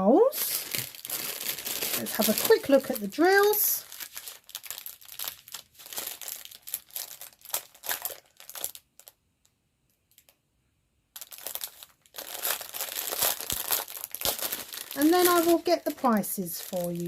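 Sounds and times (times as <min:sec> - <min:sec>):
plastic packaging crinkling: 0:00.2 - 0:09.2, 0:10.1 - 0:10.4, 0:11.1 - 0:17.0.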